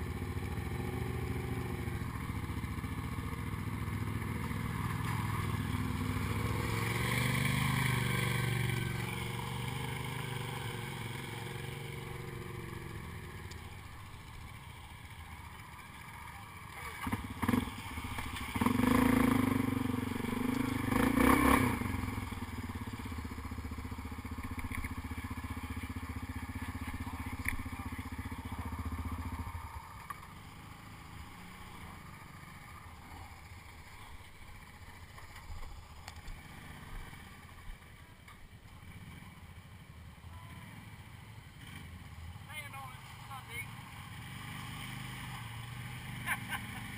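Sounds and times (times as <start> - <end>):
atv engine revving and idling: 0.0 - 46.9.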